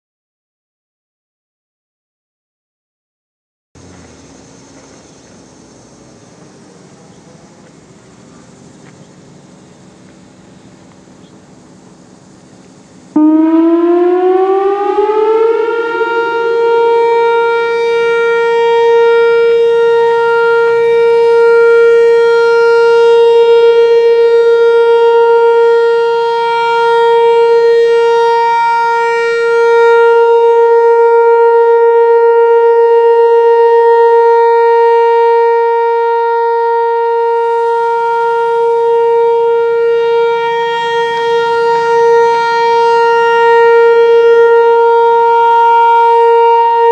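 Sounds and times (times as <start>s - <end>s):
outdoor warning siren: 5.9s - 46.9s.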